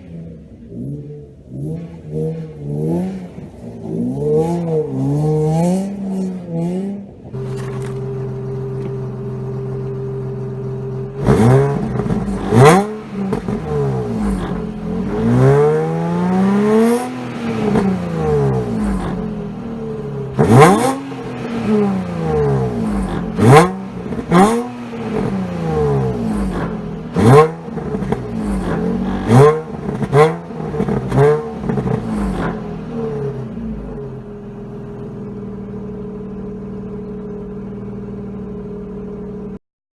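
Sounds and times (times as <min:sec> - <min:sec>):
car engine revving and idling: 0:00.0 - 0:39.6.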